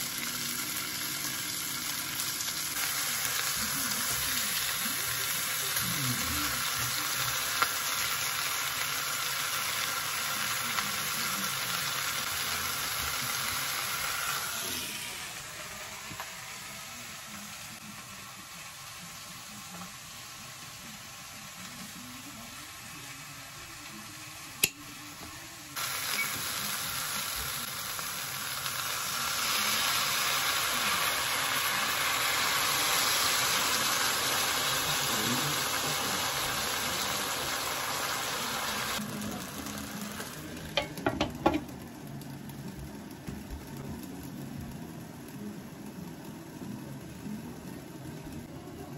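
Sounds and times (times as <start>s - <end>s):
food sizzling in a frying pan: 0.0s - 48.9s.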